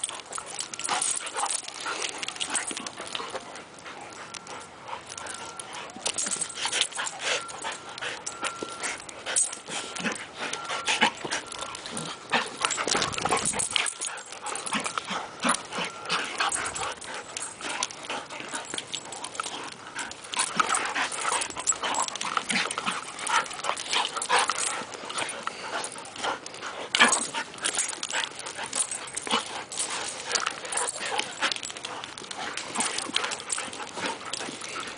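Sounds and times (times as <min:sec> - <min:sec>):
dogs play-fighting noises: 0:00.0 - 0:34.9.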